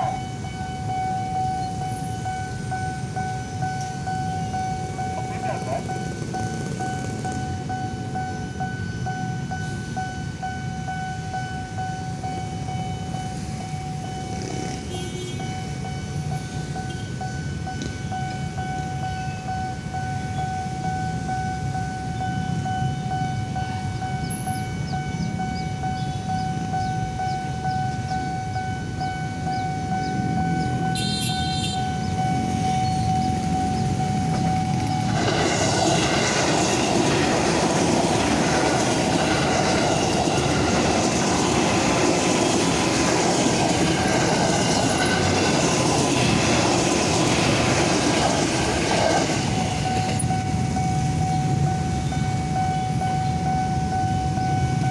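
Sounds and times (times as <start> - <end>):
level crossing alarm tone: 0.0 - 54.9
road traffic rumble: 0.0 - 54.9
train passing rush: 0.0 - 54.9.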